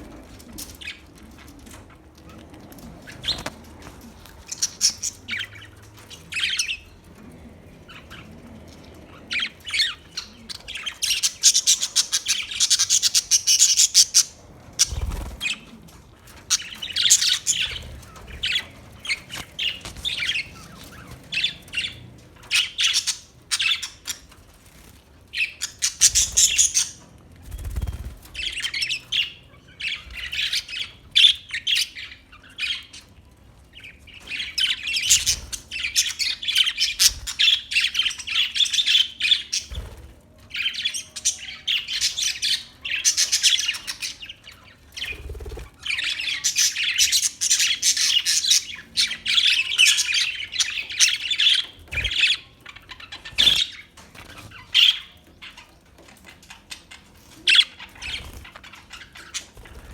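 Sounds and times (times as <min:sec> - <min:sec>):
budgerigars chirping and squawking: 0:00.0 - 0:59.9.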